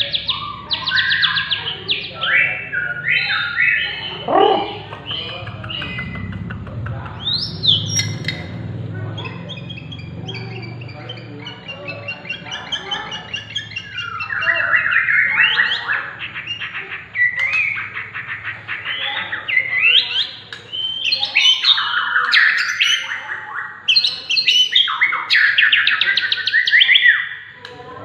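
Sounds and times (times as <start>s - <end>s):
bird singing whistled notes and trills: 0.0s - 6.4s, 7.2s - 27.8s.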